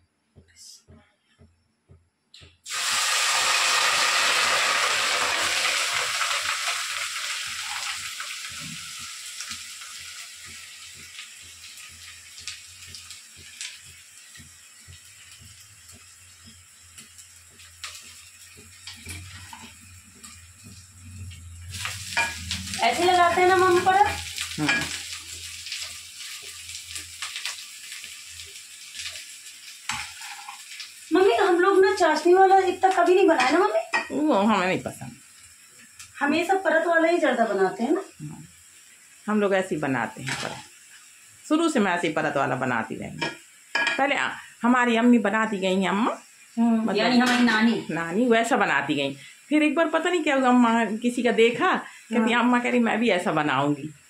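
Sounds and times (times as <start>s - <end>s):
rice sizzling in hot pot: 2.6s - 54.0s
faint steady hiss: 5.0s - 54.0s.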